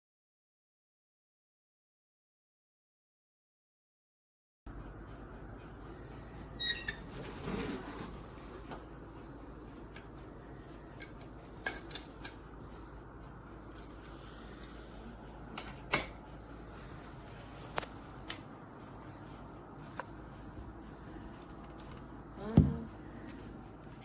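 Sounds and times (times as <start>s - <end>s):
steady low hum: 4.7s - 24.0s.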